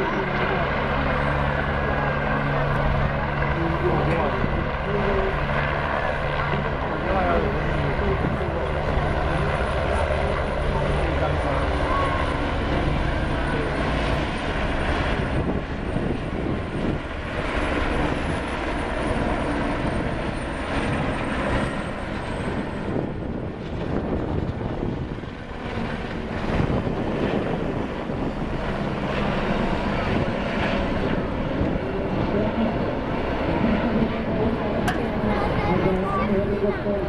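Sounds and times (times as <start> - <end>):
helicopters droning past: 0.0 - 37.0.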